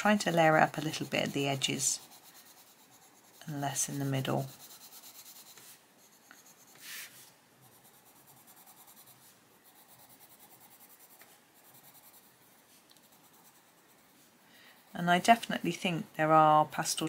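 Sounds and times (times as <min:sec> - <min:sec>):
coloured pencil scratching on paper: 0:00.0 - 0:15.8.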